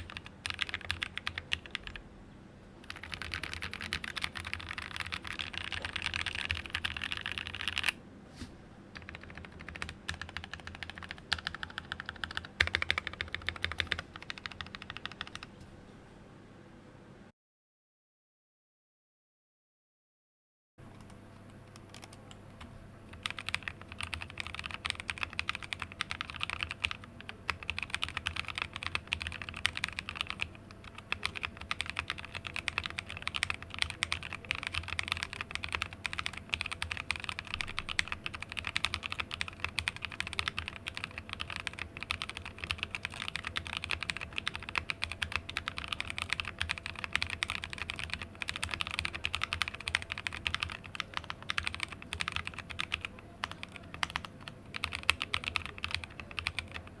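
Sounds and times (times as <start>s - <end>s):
fast typing on mechanical keyboard: 0.0s - 2.0s, 2.8s - 8.0s, 9.0s - 15.5s, 21.8s - 22.4s, 23.1s - 57.0s.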